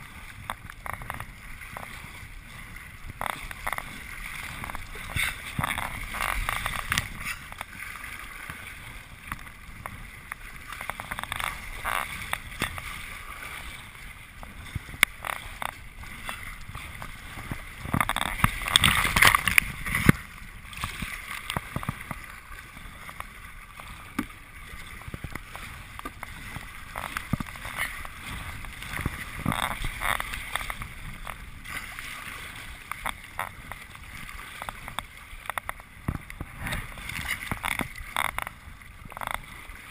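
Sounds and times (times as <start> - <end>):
water splashing from paddle strokes: 0.0 - 39.9.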